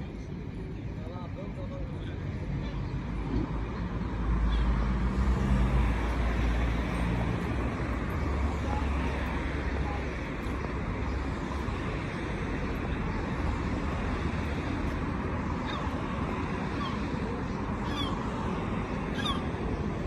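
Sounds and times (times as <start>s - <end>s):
outdoor background rush: 0.0s - 20.0s.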